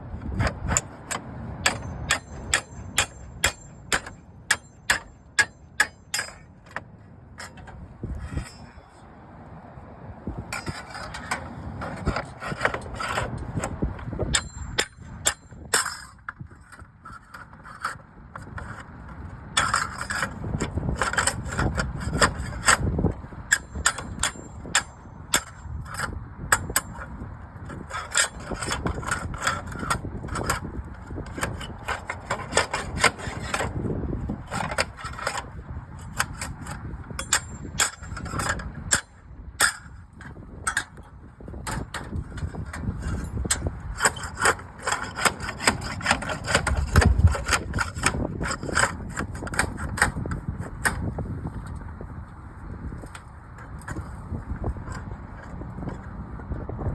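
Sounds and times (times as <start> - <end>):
scraping and rubbing on slate: 0.2 - 8.8, 10.5 - 22.9, 23.5 - 40.0, 41.7 - 51.2.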